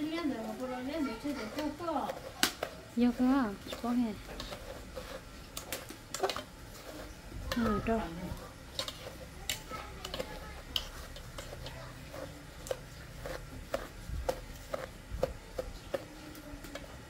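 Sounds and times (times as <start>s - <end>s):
metal spatula stirring granules: 0.0s - 16.1s.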